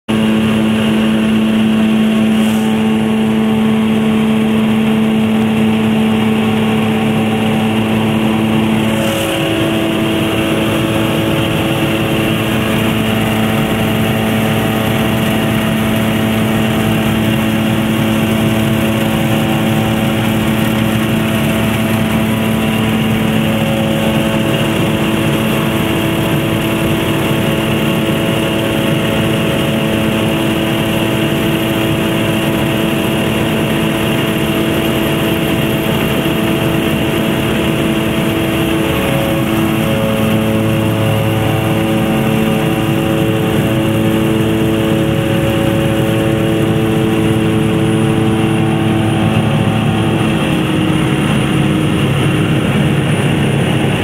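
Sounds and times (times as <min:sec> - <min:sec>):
plane engine and propeller: 0:00.0 - 0:54.0.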